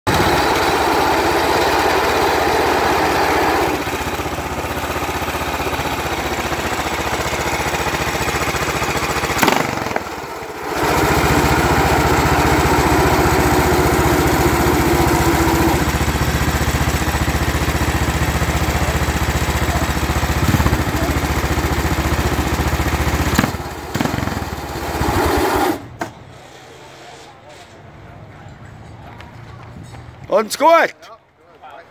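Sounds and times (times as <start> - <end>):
two-stroke kart engine revving: 0.1 - 26.2.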